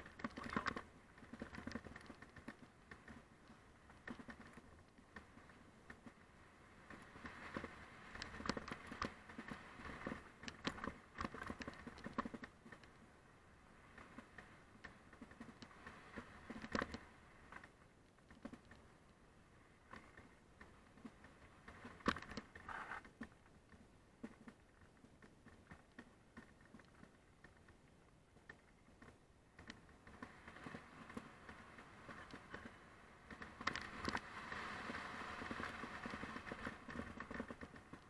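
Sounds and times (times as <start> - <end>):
mountain bike rattling: 0.0 - 19.0, 19.8 - 38.0.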